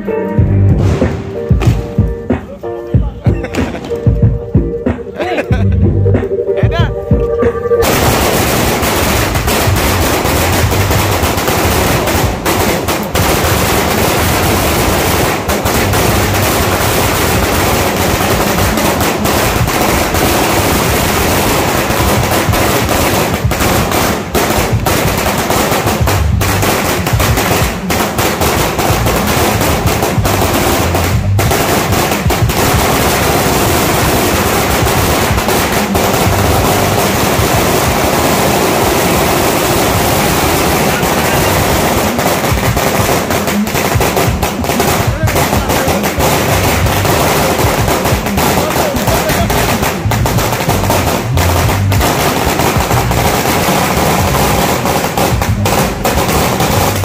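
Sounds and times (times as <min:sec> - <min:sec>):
firecracker string crackling: 0:00.0 - 0:57.0.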